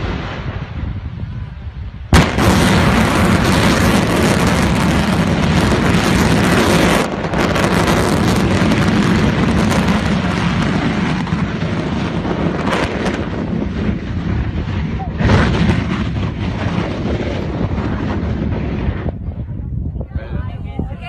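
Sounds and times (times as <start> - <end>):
volcano eruption roar: 0.0 - 19.8.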